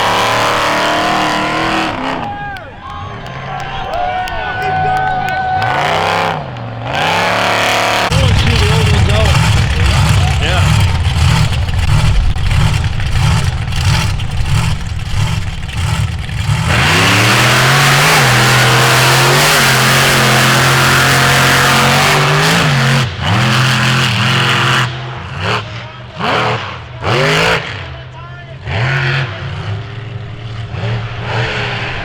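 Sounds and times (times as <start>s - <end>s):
off-road vehicle engine revving: 0.0s - 32.0s.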